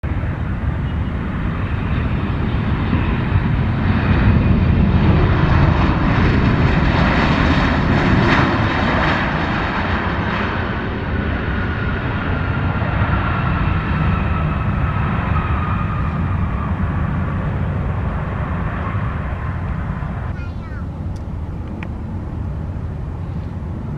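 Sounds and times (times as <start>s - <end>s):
jet airliner engines roaring: 0.0s - 23.9s.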